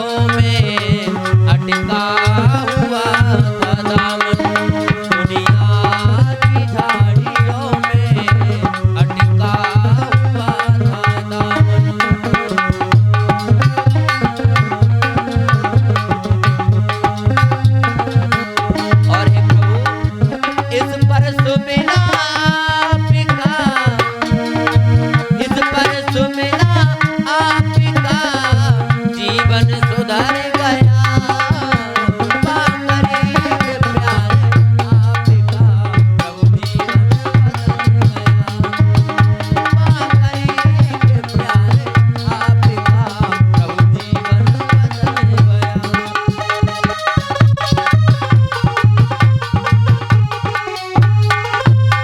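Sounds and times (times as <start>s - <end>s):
held melody: 0.0s - 52.0s
steady drum rhythm: 0.0s - 52.0s
tabla playing: 0.0s - 52.0s.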